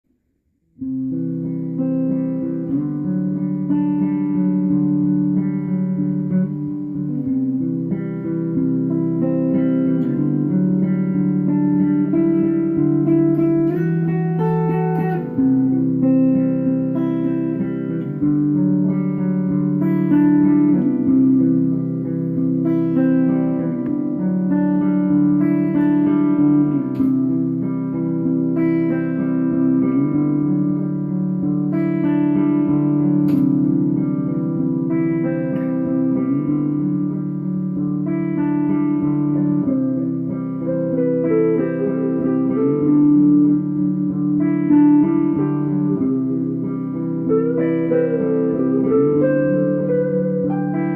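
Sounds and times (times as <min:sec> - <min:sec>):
guitar playing chords: 0:00.1 - 0:50.9.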